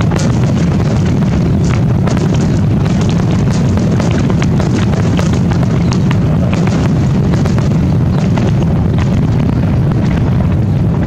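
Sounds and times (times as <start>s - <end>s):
fireworks booming: 0.0s - 11.0s
fireworks crackling and popping: 0.0s - 11.0s.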